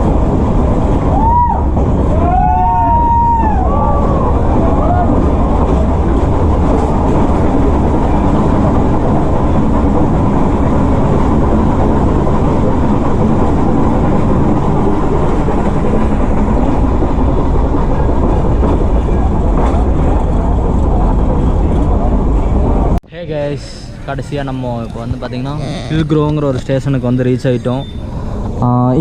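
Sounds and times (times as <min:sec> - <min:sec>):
train wheels rumbling and rattling: 0:00.0 - 0:29.0.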